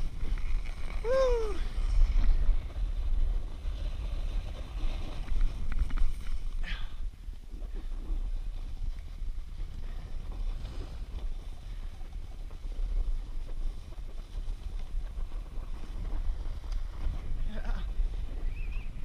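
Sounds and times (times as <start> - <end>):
snowboard sliding over snow: 0.0 - 19.0
wind buffeting microphone: 0.0 - 19.0.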